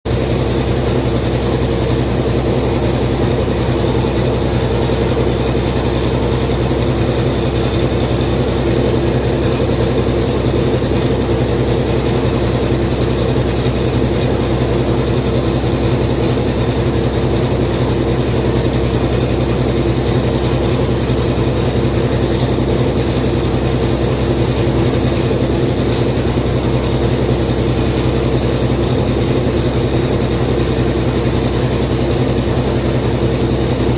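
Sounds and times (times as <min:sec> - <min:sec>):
washing machine spinning: 0:00.1 - 0:33.9.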